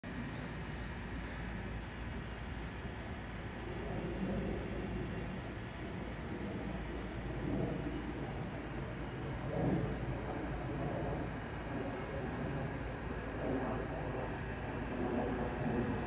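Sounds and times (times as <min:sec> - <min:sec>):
distant jet airliner rumble: 0:00.0 - 0:16.0
insects chirping: 0:00.0 - 0:16.0.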